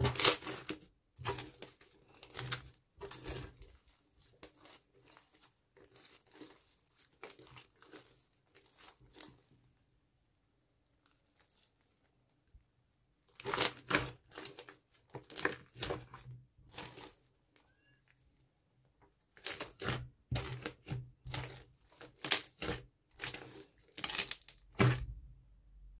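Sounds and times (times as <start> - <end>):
slime squishing and crackling: 0.0 - 9.8, 10.8 - 12.5, 13.2 - 18.0, 19.2 - 25.3.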